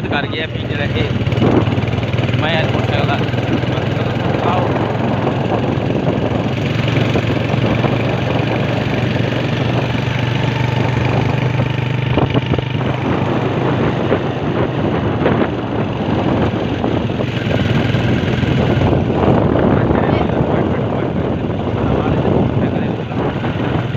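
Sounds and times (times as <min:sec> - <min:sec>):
road and air noise: 0:00.0 - 0:23.9
small motorcycle engine running: 0:00.0 - 0:23.9.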